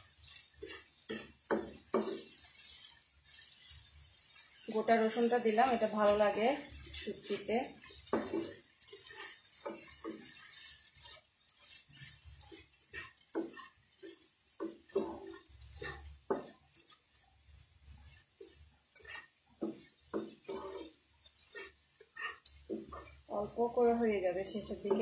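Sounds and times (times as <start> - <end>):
spatula scraping frying pan: 0.0 - 25.0.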